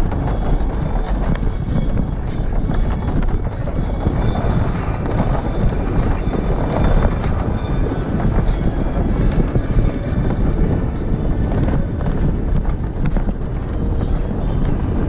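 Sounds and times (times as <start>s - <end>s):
faint music: 0.0s - 15.0s
low rumble: 0.0s - 15.0s
wind rushing over microphone: 0.0s - 15.0s.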